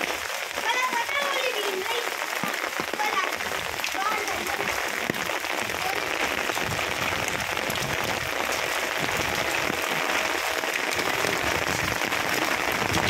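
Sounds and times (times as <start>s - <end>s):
hail and rain pelting roof and pots: 0.0s - 13.0s.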